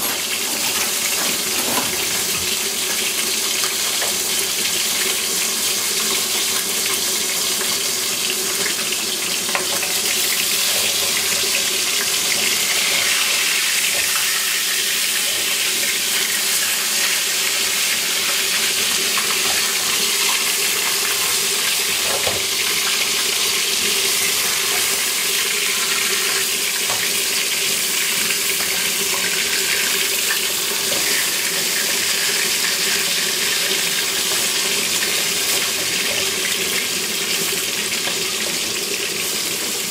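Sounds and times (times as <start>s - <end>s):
chicken wings frying in oil: 0.0s - 39.9s.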